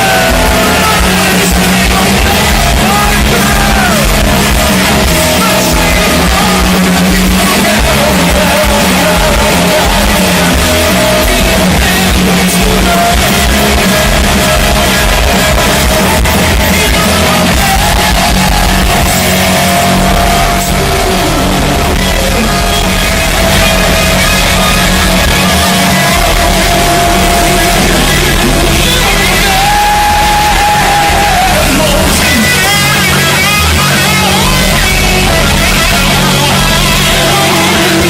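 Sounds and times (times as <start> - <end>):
electric guitar sustained notes: 0.0 - 38.0
live rock band playing: 0.0 - 38.0
person singing: 0.0 - 38.0.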